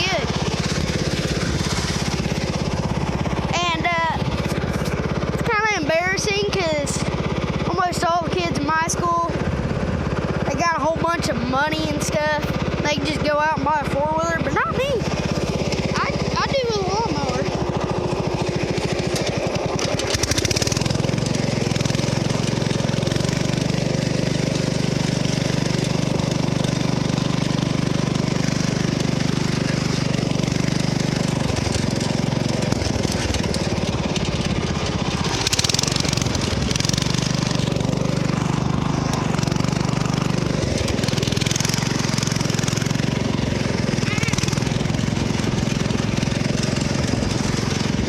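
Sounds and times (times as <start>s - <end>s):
lawn mower engine running: 0.0s - 48.0s.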